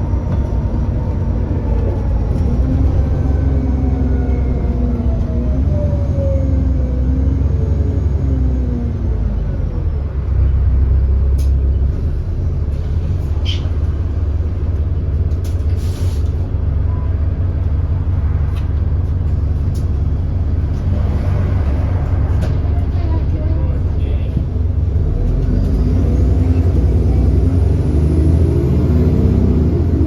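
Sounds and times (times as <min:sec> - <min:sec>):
diesel bus engine rumbling: 0:00.0 - 0:30.0.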